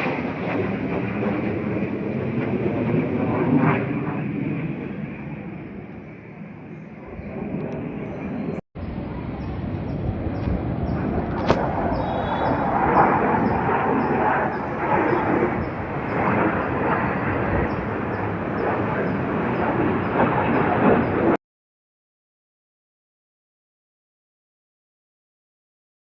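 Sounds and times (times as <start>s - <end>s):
jet aircraft roaring overhead: 0.0s - 21.4s.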